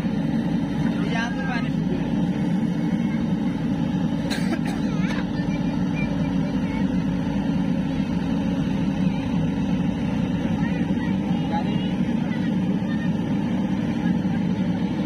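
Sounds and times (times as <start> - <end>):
low engine drone: 0.0 - 15.0
faint voices: 0.1 - 15.0.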